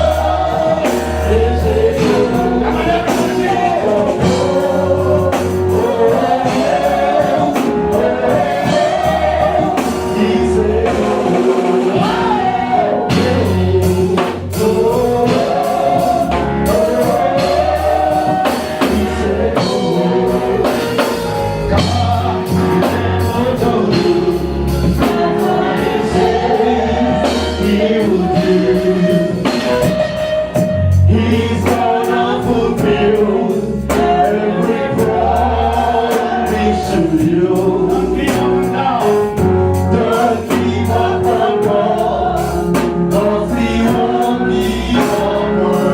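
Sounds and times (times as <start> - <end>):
choir singing gospel with band: 0.0 - 45.9.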